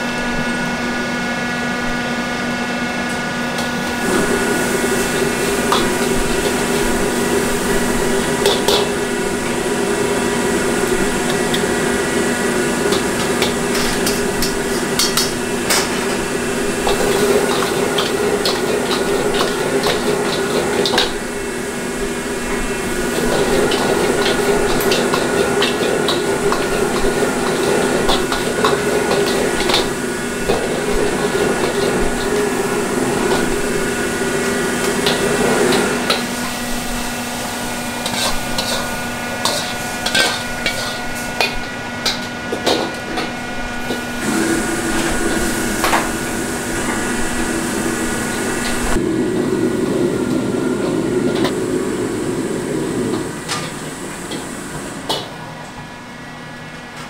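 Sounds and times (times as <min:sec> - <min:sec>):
gas burner drone: 0:00.0 - 0:57.0
utensils clanking on a wok: 0:03.5 - 0:49.0, 0:53.0 - 0:55.5.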